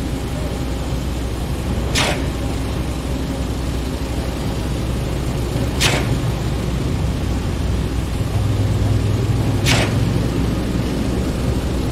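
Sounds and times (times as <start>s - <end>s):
machinery engine rumble: 0.0s - 11.9s.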